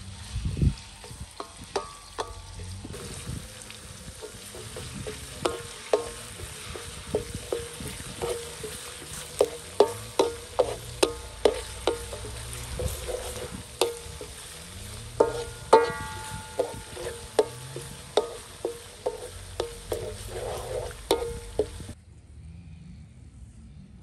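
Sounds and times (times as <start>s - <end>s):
food sizzling in hot oil: 0.0s - 22.0s
utensil tapping metal pan: 1.0s - 3.3s, 4.1s - 22.0s.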